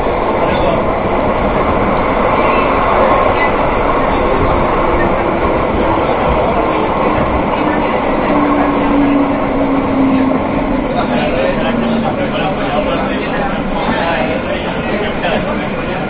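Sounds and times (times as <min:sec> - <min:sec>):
train wheels rumbling and hissing: 0:00.0 - 0:16.0.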